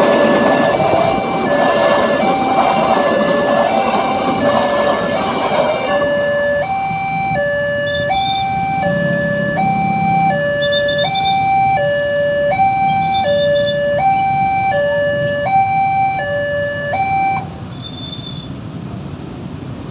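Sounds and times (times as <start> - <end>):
railroad crossing alarm ding-dong: 0.0 - 18.5.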